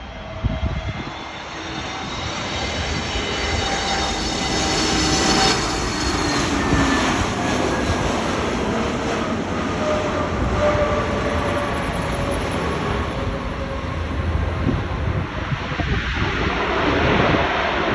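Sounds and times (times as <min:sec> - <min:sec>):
jet engines rushing: 0:00.0 - 0:17.9.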